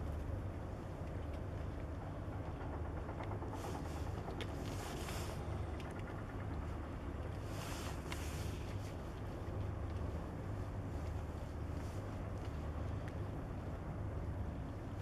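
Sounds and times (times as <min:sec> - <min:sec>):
boat engines rumbling: 0:00.0 - 0:15.0.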